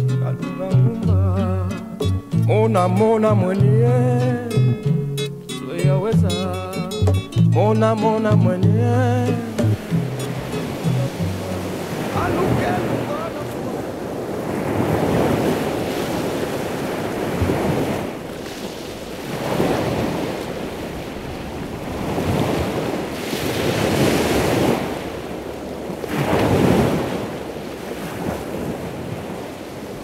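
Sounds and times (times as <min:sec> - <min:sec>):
sea waves breaking: 0:00.0 - 0:30.0.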